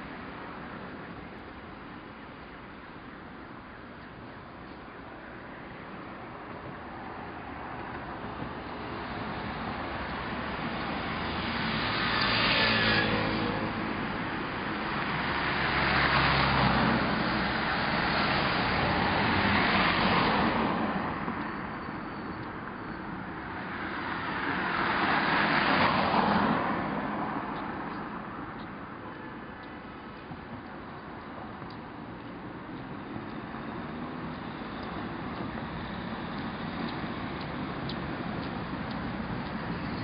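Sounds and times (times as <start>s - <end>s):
cars passing: 5.1s - 40.0s.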